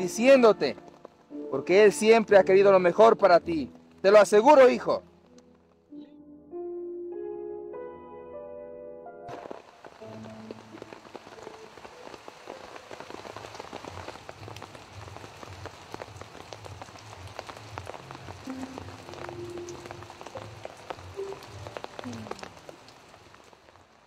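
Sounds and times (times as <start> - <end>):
rain falling on leaves: 0.0 - 5.9, 9.3 - 24.0.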